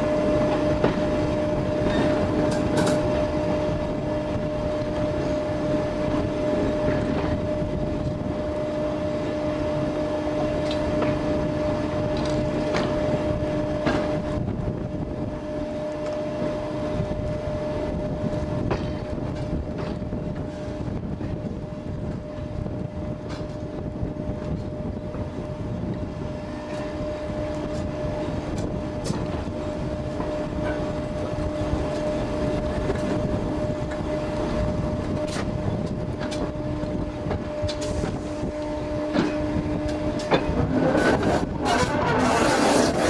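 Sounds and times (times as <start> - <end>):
steady train hum: 0.0 - 43.0
train wheels rumbling on rails: 0.0 - 43.0.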